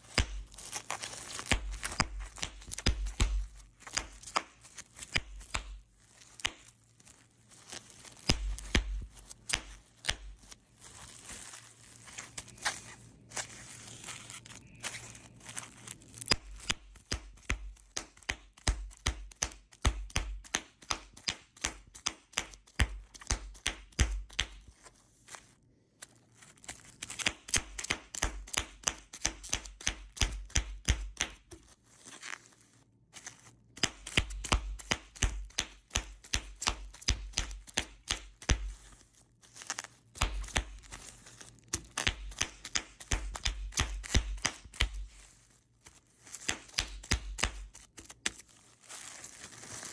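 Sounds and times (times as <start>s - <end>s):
bubble wrap popping: 0.0s - 49.9s.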